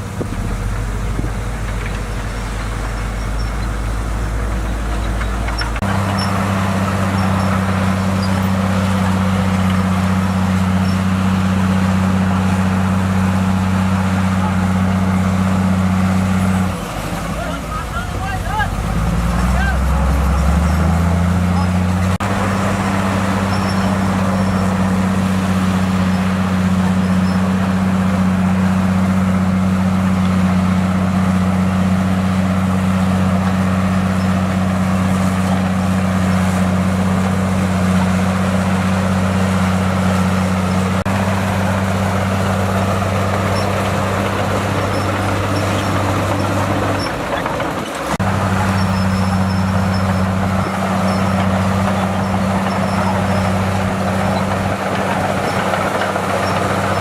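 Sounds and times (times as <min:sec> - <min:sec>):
bulldozer engine droning: 0:00.0 - 0:57.0.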